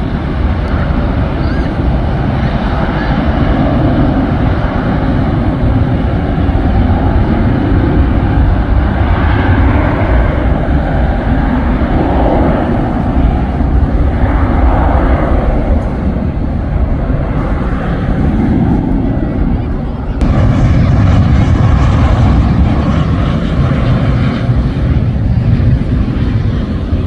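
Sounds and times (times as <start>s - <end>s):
jet airliner engines rumbling: 0.0s - 27.0s
wind buffeting microphone: 0.0s - 27.0s.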